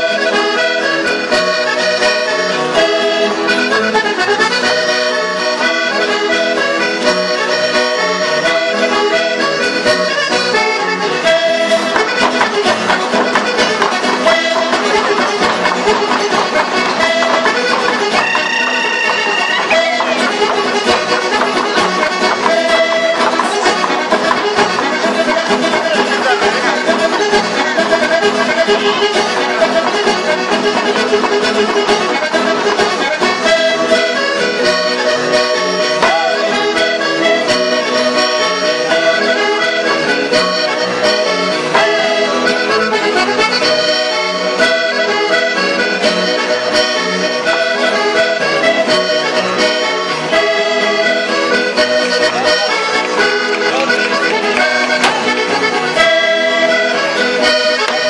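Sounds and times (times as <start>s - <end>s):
accordion folk dance music: 0.0s - 58.0s.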